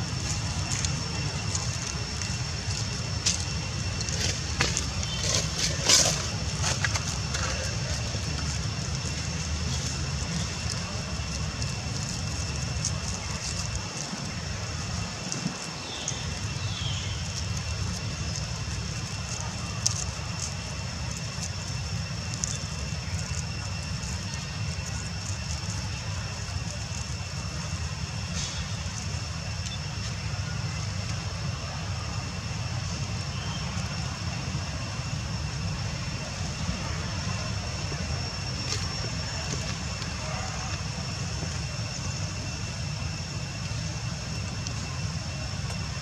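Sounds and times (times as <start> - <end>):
insect drone: 0.0 - 46.0.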